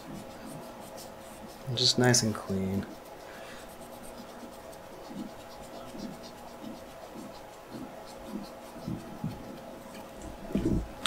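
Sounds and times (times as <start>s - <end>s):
swab scrubbing skin: 0.2s - 9.7s.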